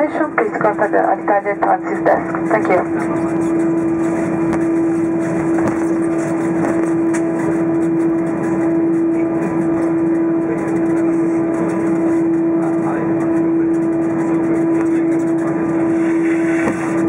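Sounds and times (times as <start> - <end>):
aircraft engines droning: 0.0 - 17.0
constant mid-pitched tone: 0.0 - 17.0.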